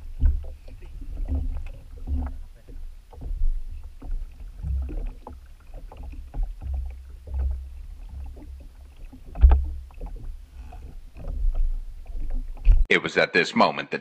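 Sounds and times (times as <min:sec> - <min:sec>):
water lapping against boat hull: 0:00.0 - 0:12.9.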